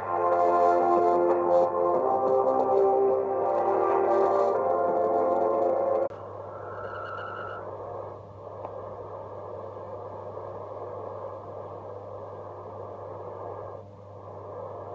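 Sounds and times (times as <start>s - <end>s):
low mains hum: 0.0s - 14.9s
radio static hiss: 0.0s - 14.9s.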